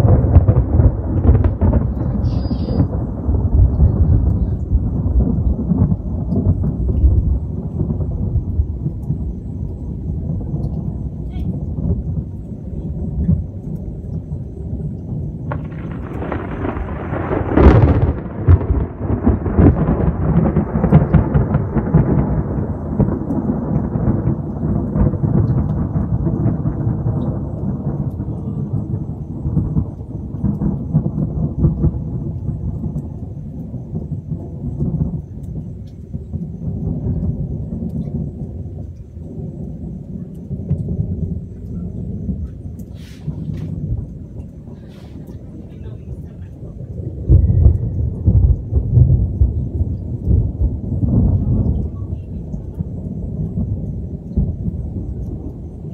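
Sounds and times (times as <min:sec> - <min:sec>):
steady low rumble: 0:00.0 - 0:55.9
thunder clap and rumble: 0:00.0 - 0:55.9.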